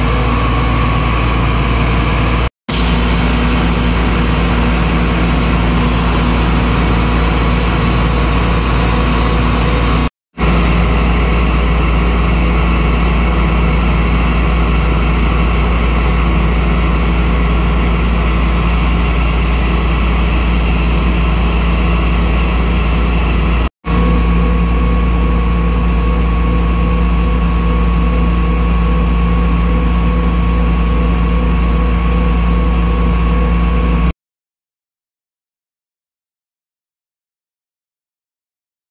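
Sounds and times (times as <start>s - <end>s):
combine harvester engine idling: 0.0s - 34.1s
thin steady whine: 0.0s - 34.1s.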